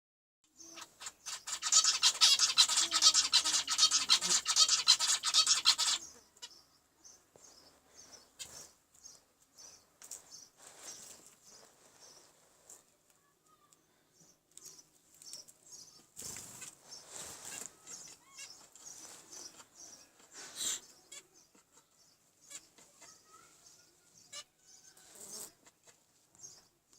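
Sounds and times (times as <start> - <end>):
finches chirping: 0.5 - 12.3, 14.2 - 25.6.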